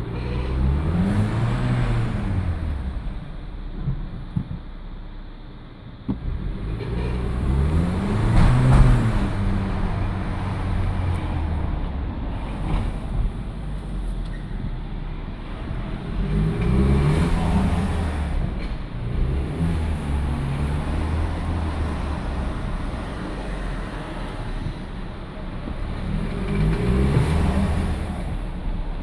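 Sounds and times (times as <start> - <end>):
car engine accelerating: 0.0 - 4.2, 6.1 - 29.0.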